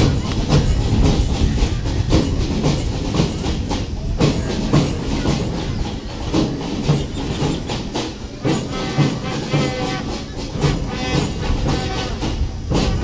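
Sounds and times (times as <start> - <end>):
march music: 0.0 - 13.0.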